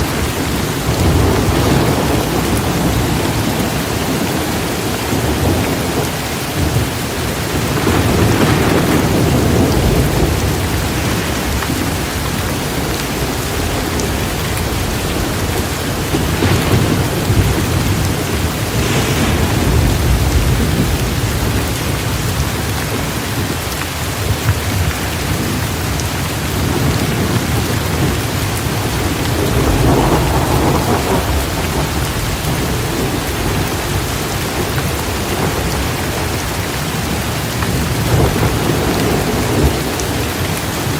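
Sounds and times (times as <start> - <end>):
heavy rain: 0.0 - 40.9
rolling thunder: 0.0 - 40.9.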